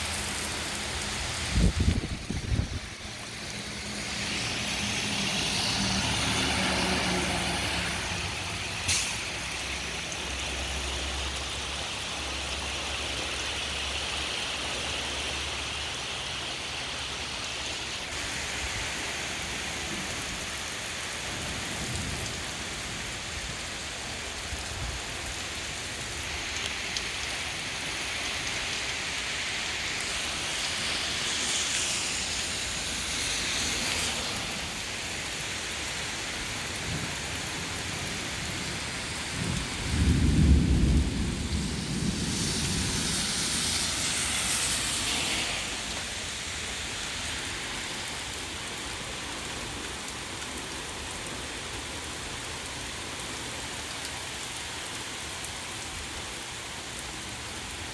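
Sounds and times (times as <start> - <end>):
heavy rain on pavement: 0.0 - 57.9.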